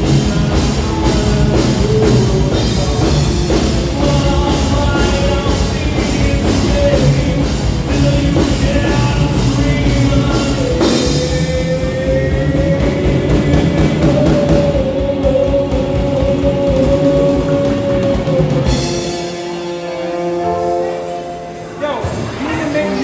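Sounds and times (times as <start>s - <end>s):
bass guitar: 0.0s - 23.0s
drum kit beat: 0.0s - 23.0s.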